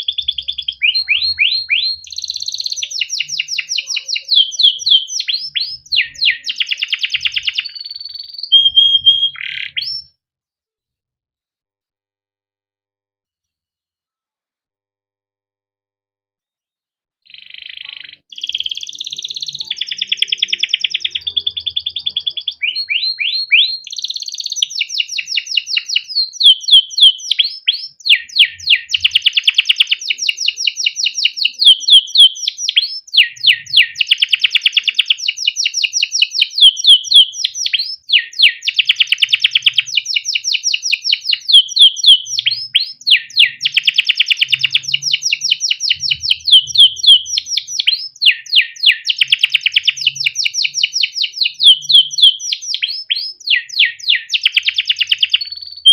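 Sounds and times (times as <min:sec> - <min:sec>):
canary singing trills: 0:00.0 - 0:10.1, 0:17.3 - 0:55.9.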